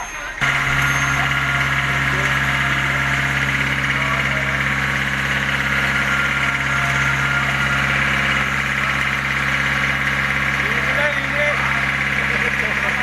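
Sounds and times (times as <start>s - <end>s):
fire truck engine idling: 0.0s - 13.0s.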